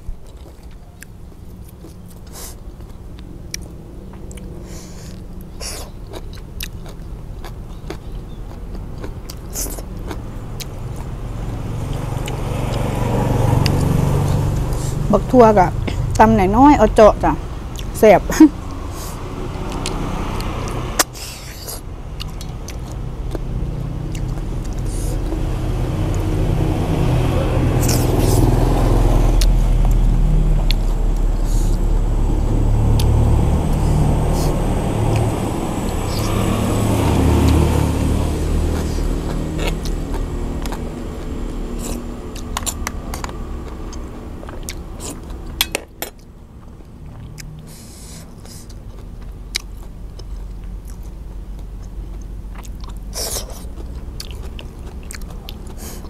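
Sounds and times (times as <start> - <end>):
motor vehicle engine running: 7.0 - 56.0.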